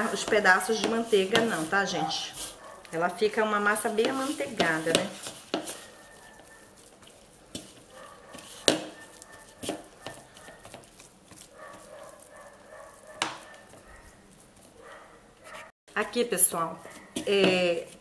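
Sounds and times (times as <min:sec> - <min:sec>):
dough squishing and rustling: 0:00.0 - 0:15.7, 0:16.4 - 0:18.0.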